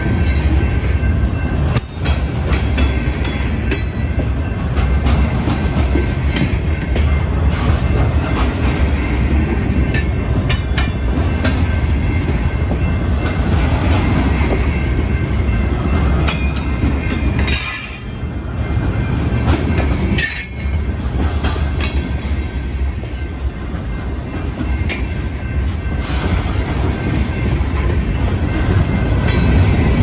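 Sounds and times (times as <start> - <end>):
steel wheels rumbling on rail: 0.0 - 30.0
wheels clanking over rail joints: 0.0 - 30.0.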